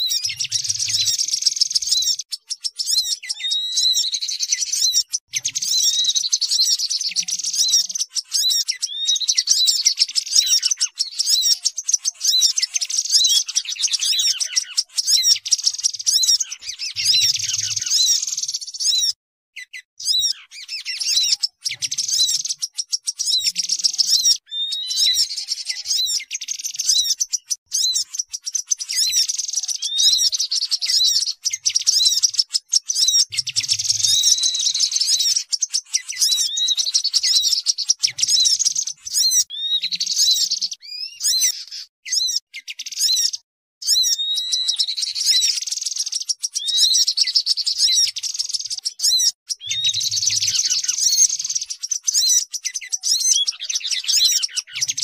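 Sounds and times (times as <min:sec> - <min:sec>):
small birds chattering: 0:00.0 - 0:55.0.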